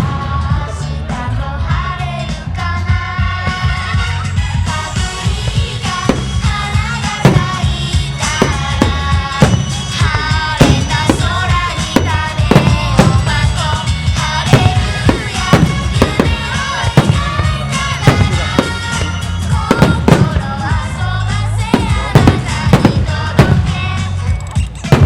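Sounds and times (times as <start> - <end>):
pop song with singing: 0.0 - 25.0
fireworks bursting: 3.5 - 25.0.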